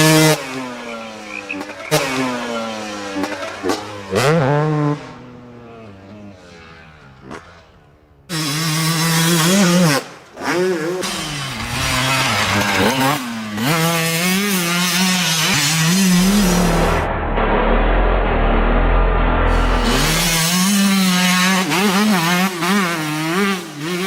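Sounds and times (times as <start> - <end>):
two-stroke motocross bike revving: 0.0 - 17.1, 19.5 - 24.0.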